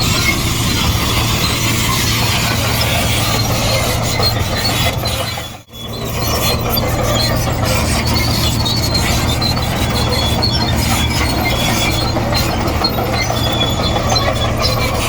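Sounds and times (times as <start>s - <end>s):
bulldozer diesel engine running: 0.0s - 15.0s
steel tracks squeaking and clinking: 0.0s - 15.0s.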